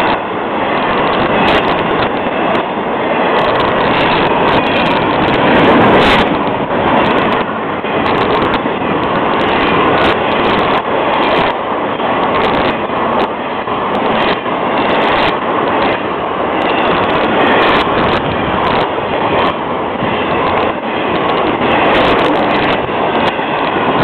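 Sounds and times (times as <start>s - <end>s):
freight train wheels rumbling on rail: 0.0s - 24.0s
sharp clicks and clacks: 0.0s - 24.0s.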